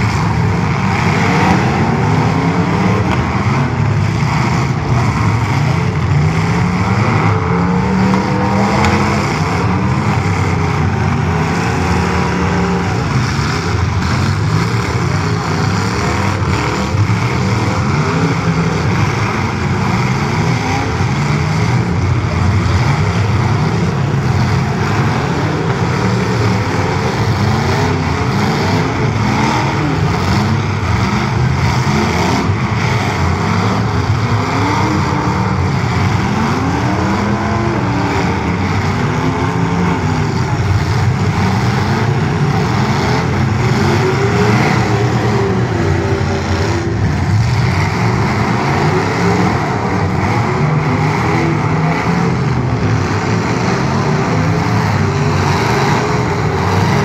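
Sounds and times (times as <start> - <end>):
car engines revving hard: 0.0 - 57.0
cars ramming each other: 0.0 - 57.0.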